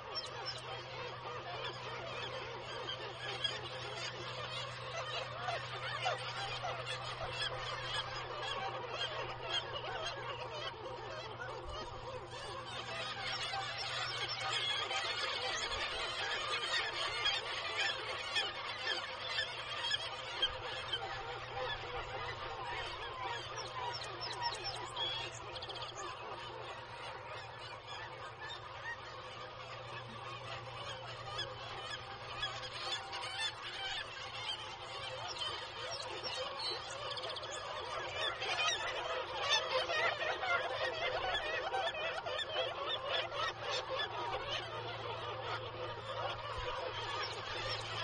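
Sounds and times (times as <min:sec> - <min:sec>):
seabird colony calling: 0:00.0 - 0:48.0.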